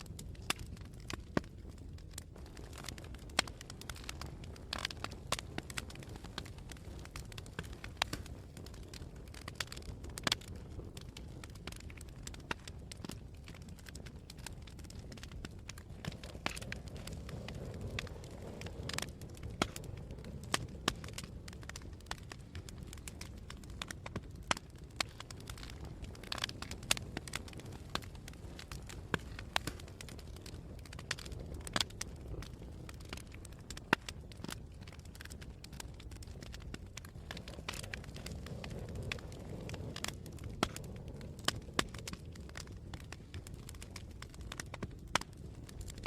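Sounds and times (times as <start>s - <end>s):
low rumble of flames: 0.0s - 46.0s
wind: 0.0s - 46.0s
wood crackling and popping: 0.0s - 46.0s.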